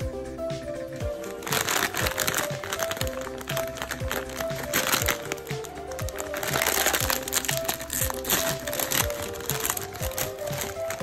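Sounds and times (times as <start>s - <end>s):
background music with steady beat: 0.0s - 11.0s
chip bag crinkling: 1.2s - 11.0s
plastic tearing: 1.2s - 11.0s.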